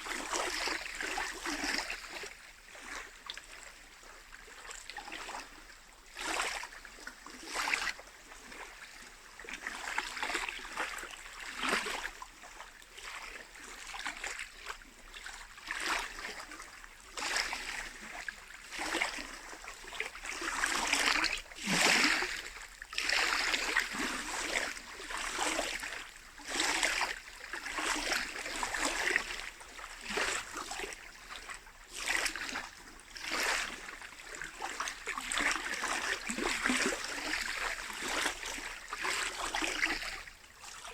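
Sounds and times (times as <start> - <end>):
lake waves lapping on shore: 0.0 - 40.9.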